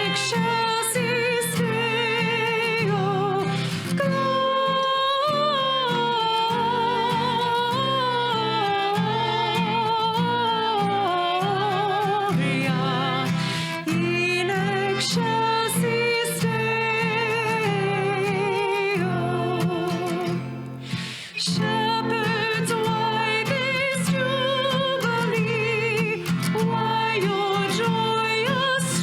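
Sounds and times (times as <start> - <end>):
person singing with vibrato: 0.0 - 29.0.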